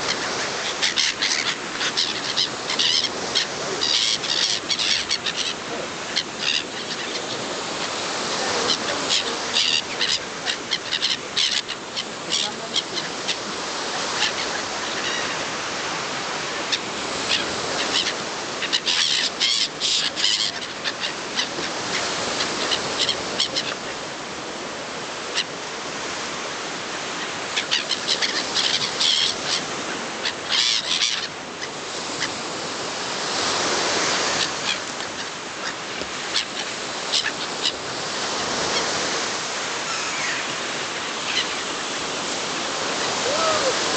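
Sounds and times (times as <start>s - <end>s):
flock of birds chirping: 0.0s - 24.5s, 25.1s - 43.9s.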